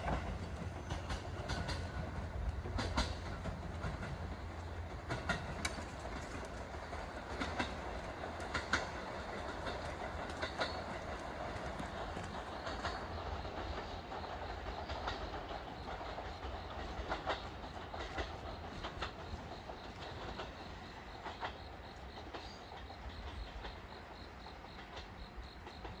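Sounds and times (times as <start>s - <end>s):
train rumble: 0.0s - 26.0s
train wheels clacking: 0.0s - 26.0s.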